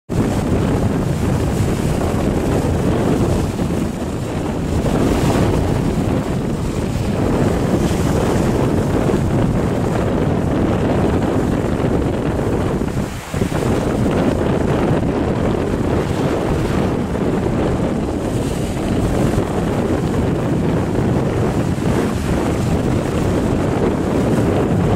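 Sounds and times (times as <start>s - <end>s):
choppy sea wash: 0.1s - 24.9s
wind buffeting microphone: 0.1s - 24.9s.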